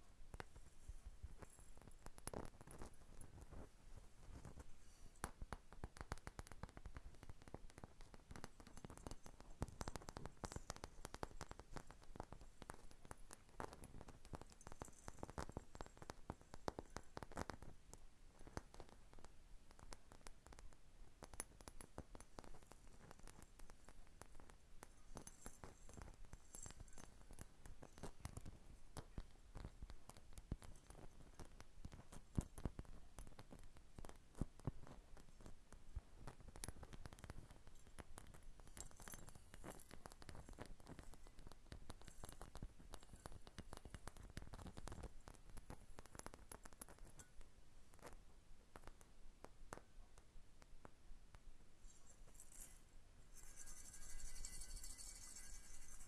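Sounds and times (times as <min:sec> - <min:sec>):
fingernail tapping and scratching: 0:00.3 - 0:35.6, 0:36.2 - 0:48.2, 0:51.8 - 0:56.0.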